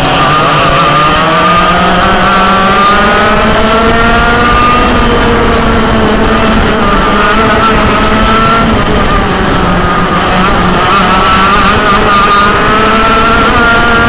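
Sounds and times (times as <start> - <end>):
kart engine at high revs: 0.0 - 14.0.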